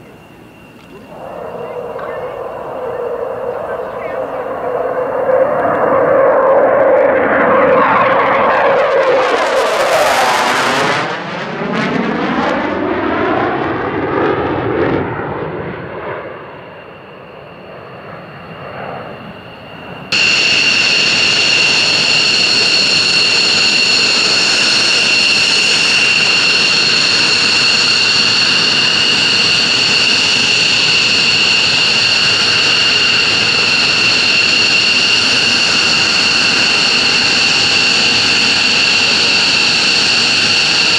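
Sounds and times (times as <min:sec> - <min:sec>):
high-pitched jet engine whine: 0:00.0 - 0:40.9
jet flying past: 0:00.0 - 0:40.9.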